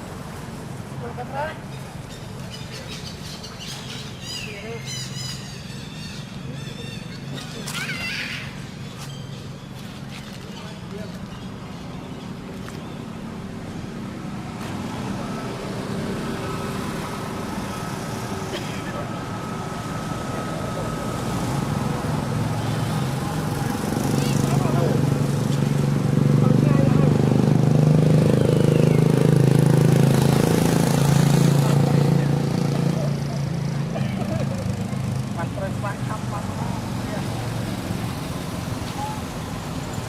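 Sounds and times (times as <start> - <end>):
motor vehicle rumble: 0.0 - 40.0.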